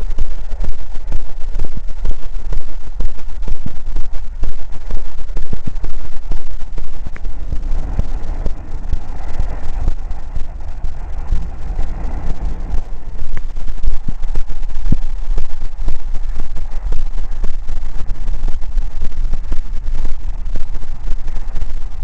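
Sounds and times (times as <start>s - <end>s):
tram rumbling past: 2.8s - 22.0s.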